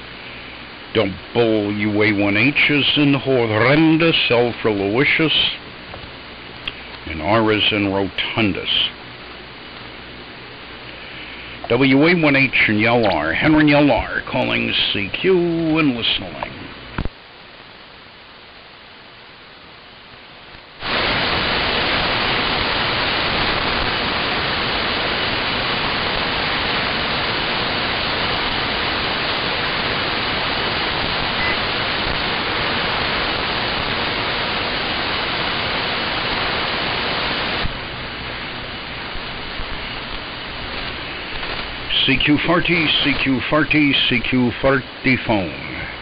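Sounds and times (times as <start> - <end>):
shortwave radio static hiss: 0.0 - 46.0.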